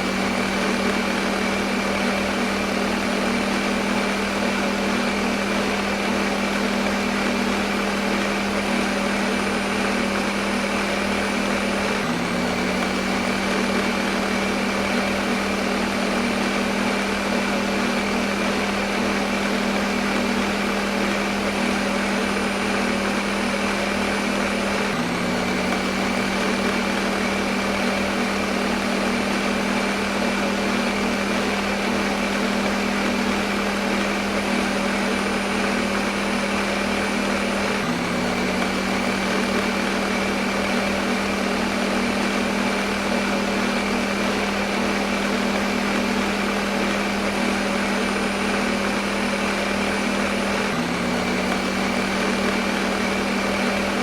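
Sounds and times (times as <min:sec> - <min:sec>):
blender motor whirring: 0:00.0 - 0:54.0.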